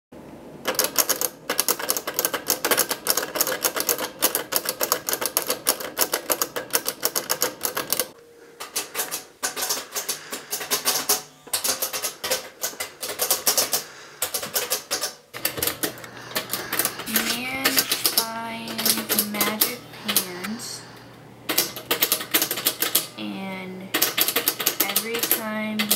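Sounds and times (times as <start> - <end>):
typewriter keys typing: 0.6 - 23.1, 23.9 - 25.9.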